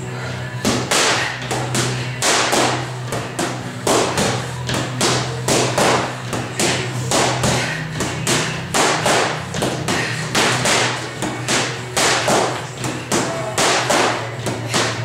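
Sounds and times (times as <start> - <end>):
boxing gloves smacking mitts: 0.6 - 15.0.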